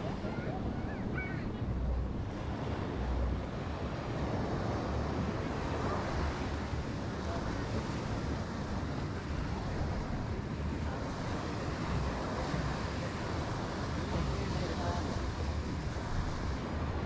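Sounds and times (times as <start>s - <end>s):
surf washing on beach: 0.0s - 17.0s.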